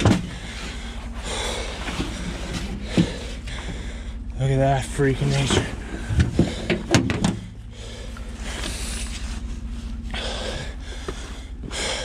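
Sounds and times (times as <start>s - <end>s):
man breathing heavily: 0.0s - 4.4s, 5.7s - 12.0s
low steady hum: 0.0s - 12.0s.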